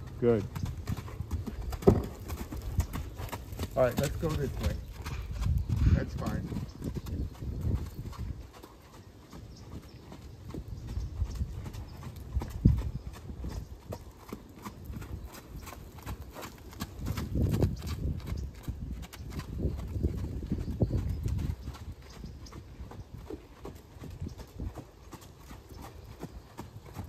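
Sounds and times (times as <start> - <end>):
horse hooves striking dirt: 0.0 - 27.0.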